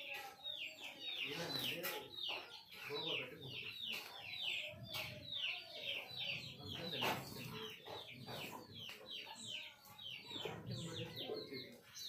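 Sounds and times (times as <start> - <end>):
birds peeping: 0.0 - 12.0.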